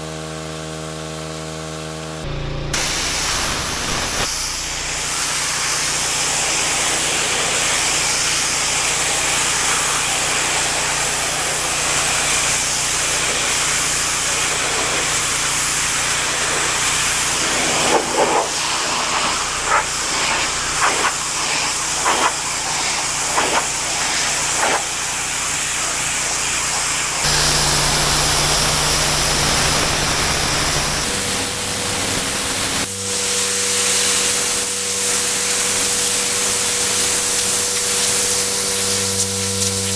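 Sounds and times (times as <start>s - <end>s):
machine humming: 2.2s - 22.4s, 24.9s - 39.9s
pressure washer jet hissing: 2.8s - 39.9s.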